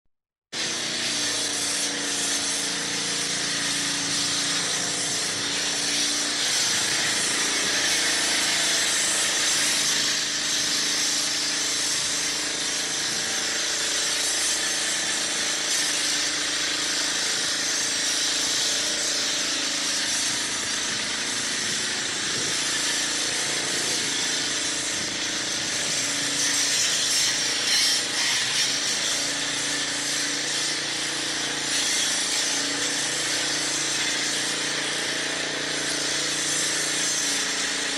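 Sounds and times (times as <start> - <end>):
electric sander whirring: 0.6 - 37.9.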